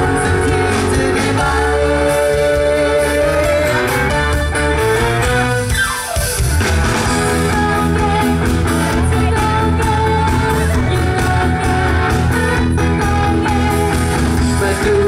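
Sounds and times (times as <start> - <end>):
band playing instrumental: 0.0 - 15.0
held lead melody: 0.0 - 15.0.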